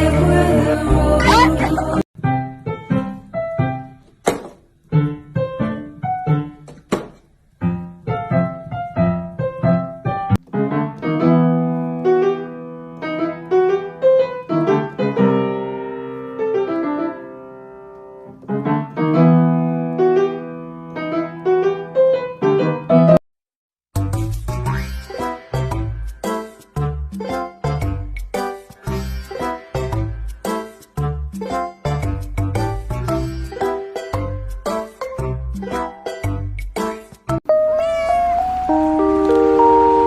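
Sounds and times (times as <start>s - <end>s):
piano music: 0.0s - 4.0s, 4.9s - 6.7s, 7.6s - 23.2s, 25.2s - 40.0s.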